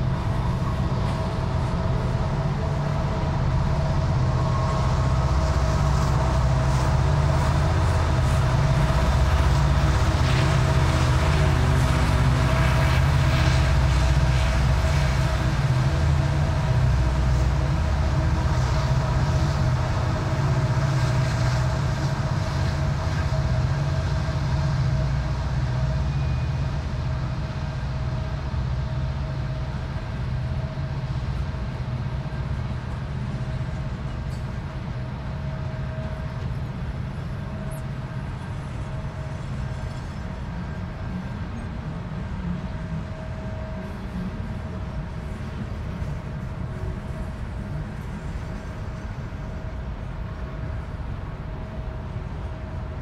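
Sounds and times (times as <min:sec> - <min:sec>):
diesel locomotive rumble and whine: 0:00.0 - 0:53.0.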